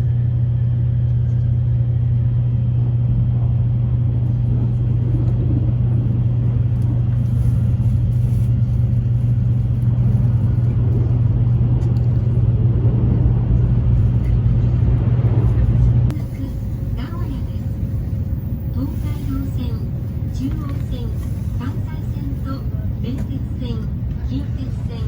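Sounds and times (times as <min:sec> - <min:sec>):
train running low rumble: 0:00.0 - 0:25.0.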